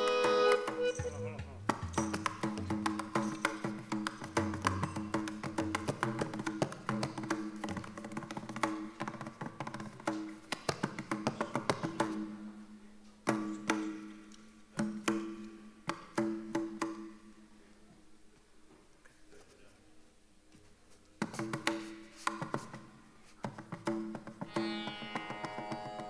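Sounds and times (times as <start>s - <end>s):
tabla strokes: 0.0s - 12.6s, 13.2s - 17.2s, 21.2s - 26.0s.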